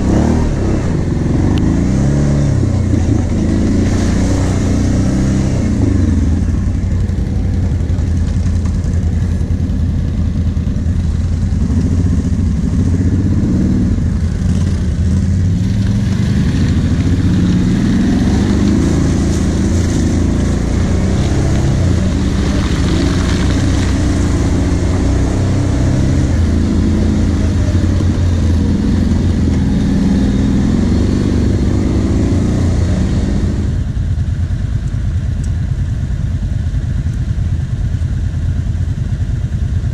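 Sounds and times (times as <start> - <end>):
atv engine revving: 0.0 - 34.0.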